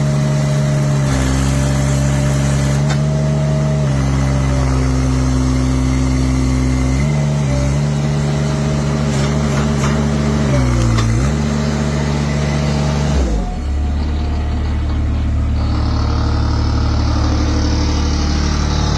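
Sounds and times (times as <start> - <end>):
loader engine running under load: 0.0 - 18.9.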